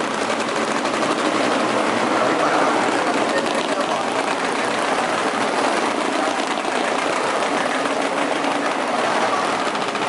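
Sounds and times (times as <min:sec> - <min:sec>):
racing motorcycle engines running: 0:00.0 - 0:10.0.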